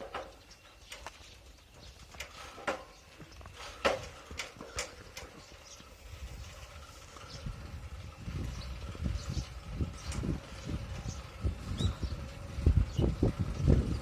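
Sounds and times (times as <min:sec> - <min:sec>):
bicycle rattling over bumps: 0:00.0 - 0:14.0.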